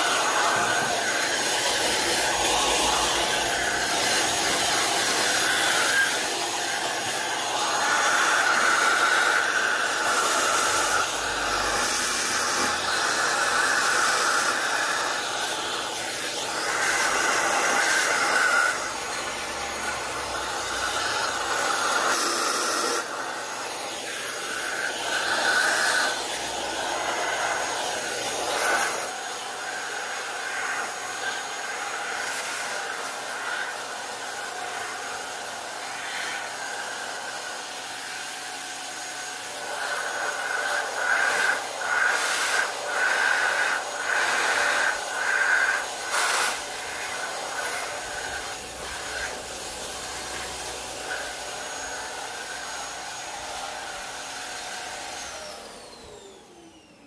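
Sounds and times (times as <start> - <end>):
hair dryer blowing air: 0.0 - 57.0.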